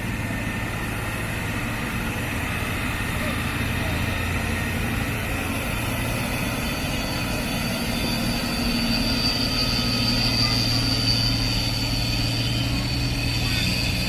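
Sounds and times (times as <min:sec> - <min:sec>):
heavy truck engine running: 0:00.0 - 0:14.0
steady high whine: 0:00.0 - 0:14.0.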